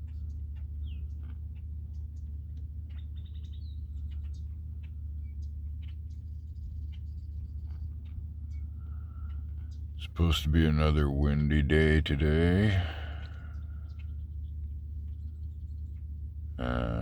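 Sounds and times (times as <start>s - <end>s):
songbirds chirping: 0.0s - 17.0s
steady low rumble: 0.0s - 17.0s.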